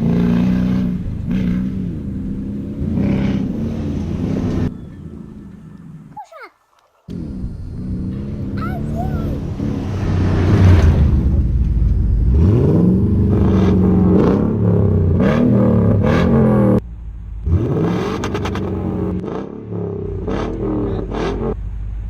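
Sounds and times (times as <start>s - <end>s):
truck exhaust revving: 0.0s - 6.2s, 7.1s - 22.0s.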